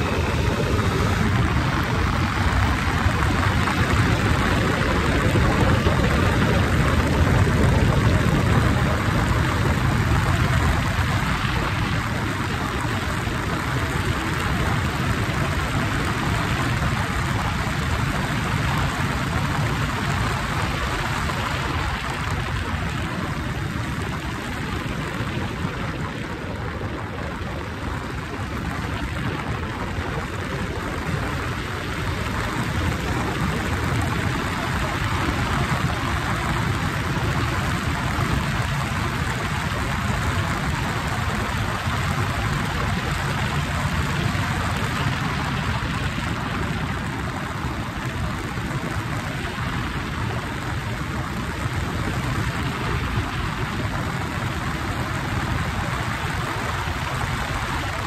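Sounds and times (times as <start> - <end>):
motorcycle engine drone: 0.0 - 58.0
wind rush on microphone: 0.0 - 58.0.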